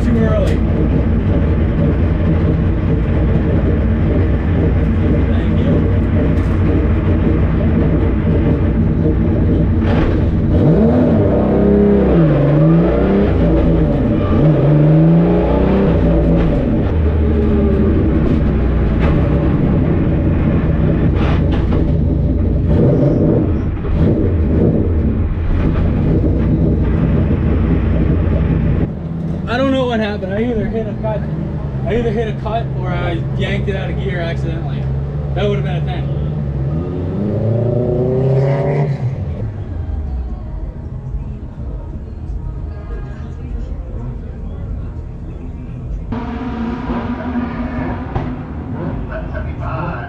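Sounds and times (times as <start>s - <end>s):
car engine running and revving: 0.0s - 42.5s, 45.8s - 50.0s.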